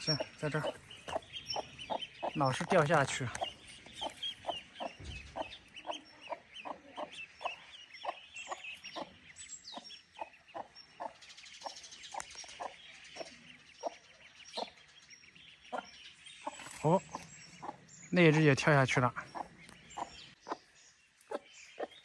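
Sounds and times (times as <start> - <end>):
hen clucking: 0.0 - 14.0, 15.7 - 20.7
ducklings peeping: 0.0 - 22.0.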